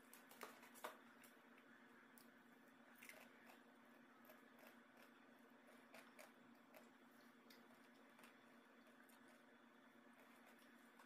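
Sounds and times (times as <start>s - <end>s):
chewing and handling food: 0.0s - 11.0s
steady low hum: 0.0s - 11.0s.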